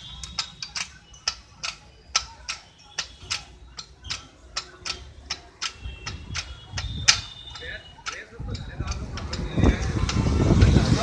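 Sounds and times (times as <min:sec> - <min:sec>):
floor jack pumping clicks: 0:00.0 - 0:11.0.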